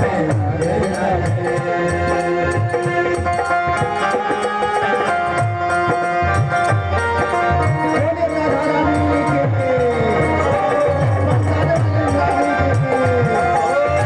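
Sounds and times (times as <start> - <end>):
devotional instrumental melody: 0.0 - 14.0.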